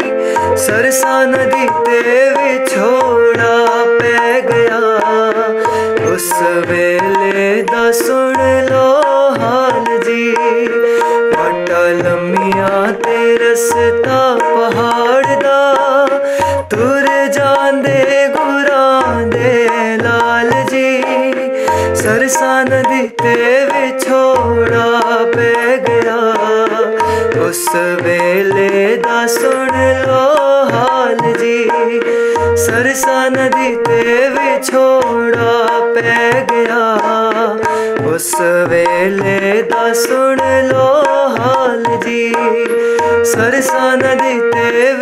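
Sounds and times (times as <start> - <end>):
harmonium chords and melody: 0.0 - 45.0
tabla rhythm: 0.0 - 45.0.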